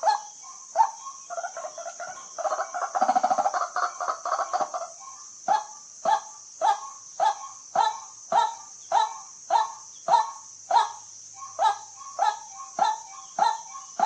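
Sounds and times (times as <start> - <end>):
steady high hiss: 0.0 - 14.0
waterhen kwak calls: 0.0 - 14.0
waterhen chattering calls: 0.8 - 14.0.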